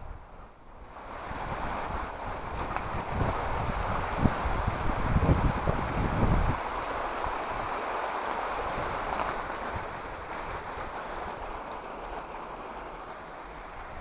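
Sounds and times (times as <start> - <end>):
steady rushing hiss: 0.0 - 14.0
wind buffeting microphone: 0.0 - 14.0.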